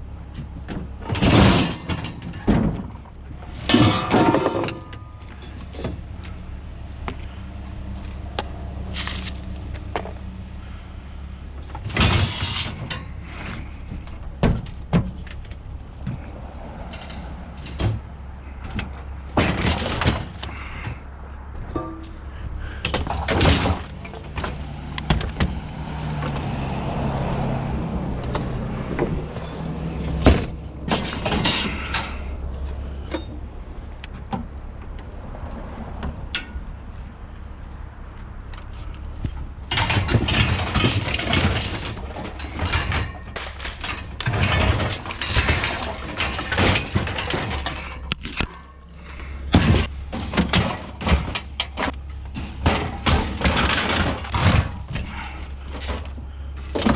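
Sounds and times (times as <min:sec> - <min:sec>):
scrap knocks and clunks: 0:00.3 - 0:06.4, 0:11.5 - 0:37.1, 0:38.3 - 0:56.9
scrap scraping and rattling: 0:00.7 - 0:06.3, 0:08.0 - 0:10.2, 0:11.5 - 0:33.4, 0:38.6 - 0:56.9.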